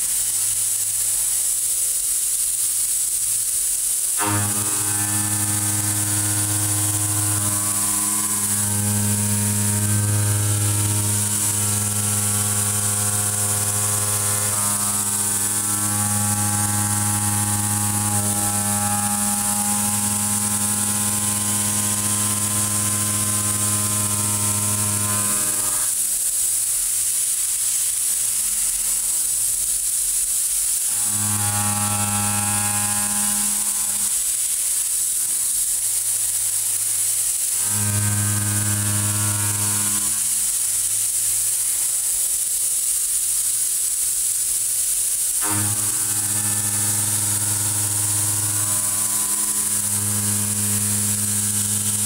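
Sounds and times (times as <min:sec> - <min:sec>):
constant high hiss: 0:00.0 - 0:52.0
milling machine cutting tone: 0:04.2 - 0:29.7, 0:30.8 - 0:34.5, 0:35.2 - 0:42.1, 0:45.4 - 0:52.0.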